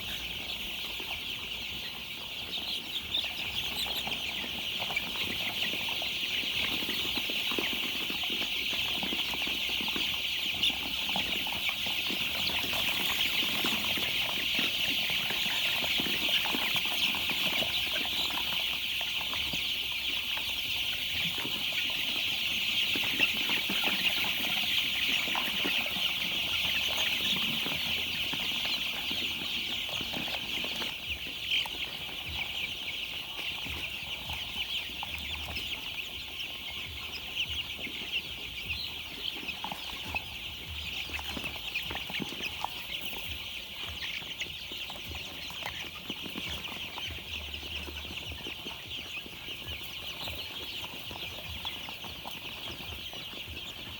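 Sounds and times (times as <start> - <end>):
chicks cheeping: 0.0 - 53.9.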